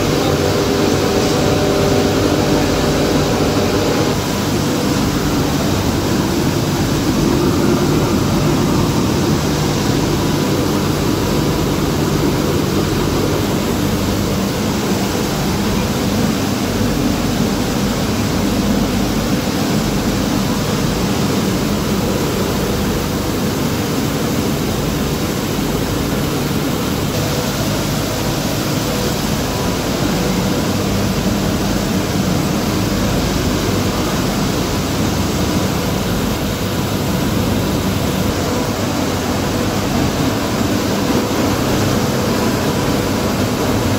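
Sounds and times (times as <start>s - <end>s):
faint constant hum: 0.0s - 43.9s
loud machine noise: 0.0s - 43.9s.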